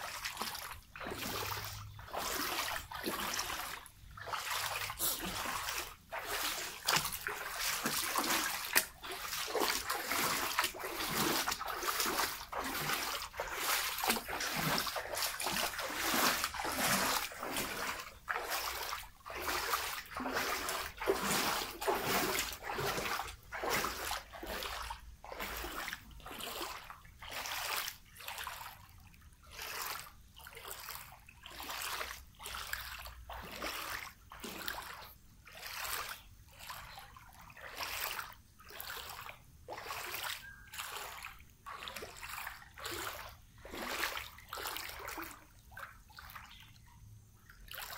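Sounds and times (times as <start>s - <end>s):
splashing steps in floodwater: 0.0s - 47.9s.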